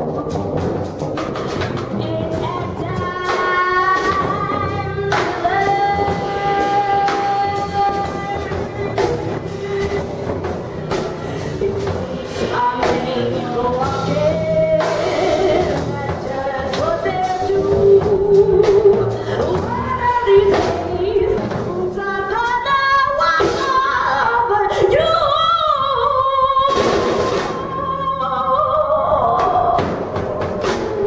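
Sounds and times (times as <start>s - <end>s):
drum kit with cymbals: 0.0s - 25.5s, 26.6s - 28.3s, 29.2s - 31.0s
woman singing: 1.9s - 31.0s.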